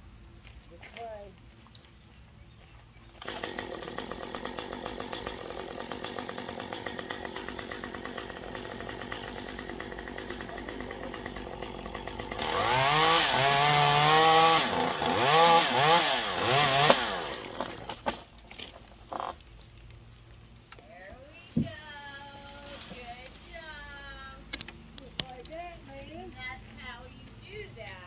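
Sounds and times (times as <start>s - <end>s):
chainsaw cutting a limb: 3.2s - 23.4s, 24.2s - 26.5s.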